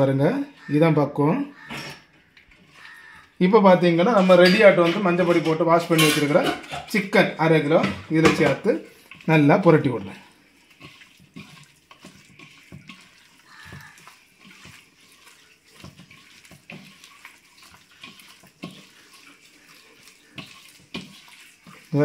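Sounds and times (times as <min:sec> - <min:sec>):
wet squelches of meat in batter: 0:01.5 - 0:04.4, 0:06.1 - 0:22.0.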